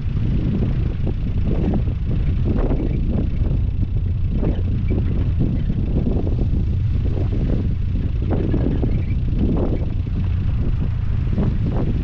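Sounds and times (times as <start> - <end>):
road noise: 0.0 - 12.0
wind noise: 0.0 - 12.0.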